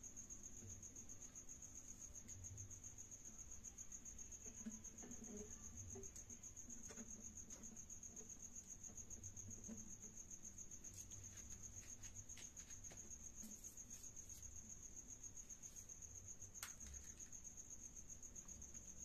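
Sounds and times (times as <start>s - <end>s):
high-pitched insect trill: 0.0s - 19.0s.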